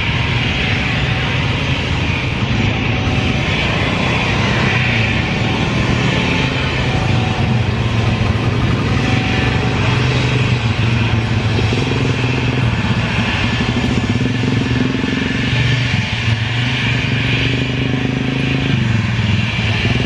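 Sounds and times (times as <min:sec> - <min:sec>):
jet engines hissing: 0:00.0 - 0:20.0
motorcycle engines idling: 0:00.0 - 0:20.0.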